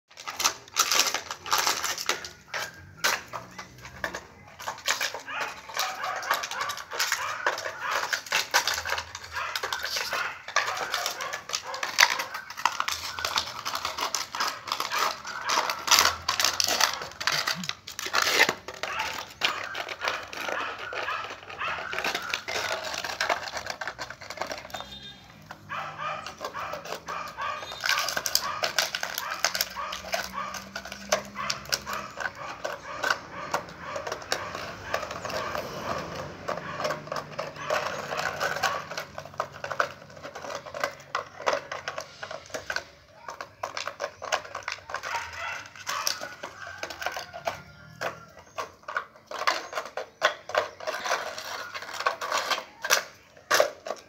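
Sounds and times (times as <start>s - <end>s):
puppy clicking and scratching: 0.0s - 54.0s
dog sounds: 0.1s - 54.0s.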